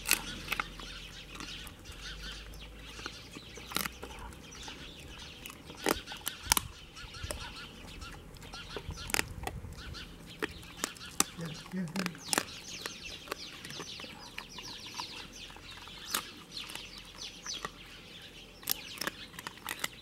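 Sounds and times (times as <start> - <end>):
dog crunching bones: 0.0 - 20.0.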